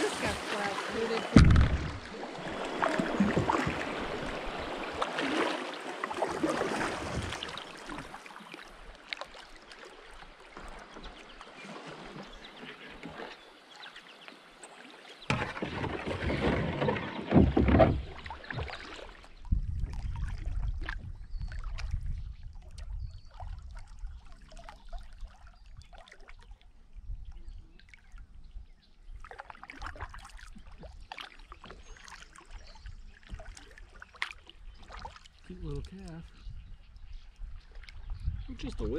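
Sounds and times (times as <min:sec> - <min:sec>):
paddle splashing water: 0:00.0 - 0:26.9, 0:29.1 - 0:38.9.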